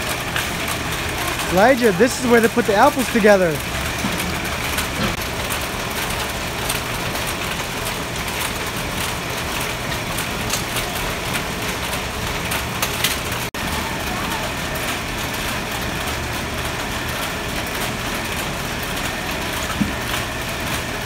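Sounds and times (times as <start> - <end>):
conveyor machine hum and hiss: 0.0 - 21.0.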